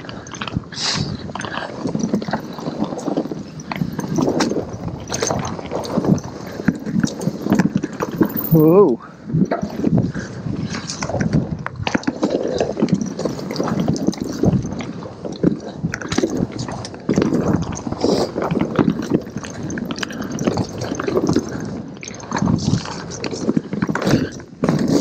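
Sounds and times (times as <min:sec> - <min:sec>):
bike knocking and rattling: 0:00.0 - 0:25.0
bike tyres rolling over dirt: 0:00.0 - 0:25.0.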